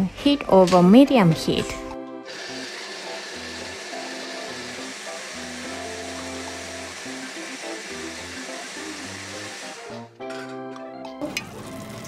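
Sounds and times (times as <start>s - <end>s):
light background music: 0.0s - 12.0s.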